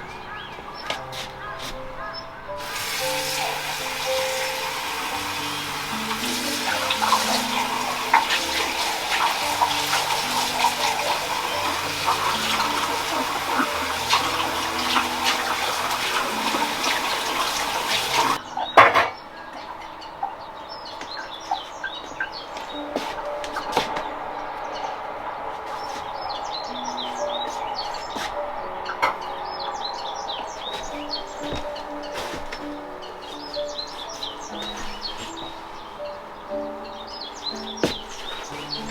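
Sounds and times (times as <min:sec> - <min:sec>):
birds chirping: 0:00.0 - 0:38.9
soft background music: 0:00.0 - 0:38.9
running water splashing: 0:02.6 - 0:18.4, 0:22.3 - 0:38.9.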